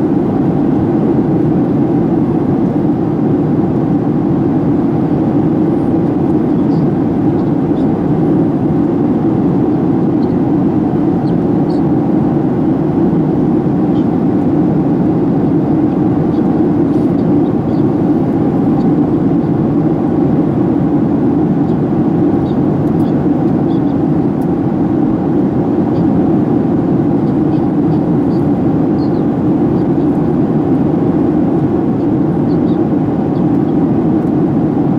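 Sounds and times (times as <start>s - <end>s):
airplane cabin engine drone: 0.0s - 34.9s.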